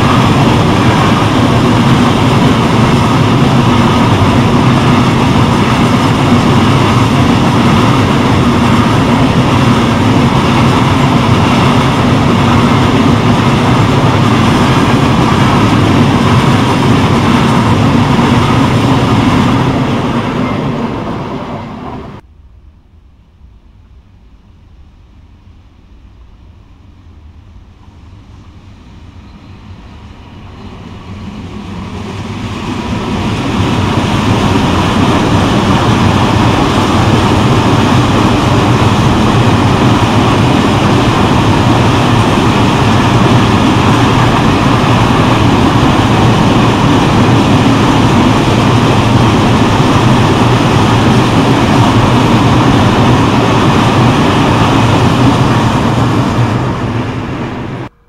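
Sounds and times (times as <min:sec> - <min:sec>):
freight train rumble: 0:00.0 - 0:58.0.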